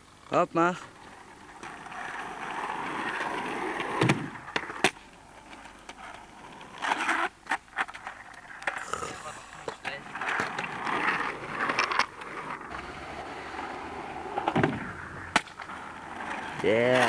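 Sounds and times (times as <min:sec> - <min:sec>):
skateboard wheels rolling on asphalt: 0:00.0 - 0:17.0
skateboard clacks: 0:01.0 - 0:17.0.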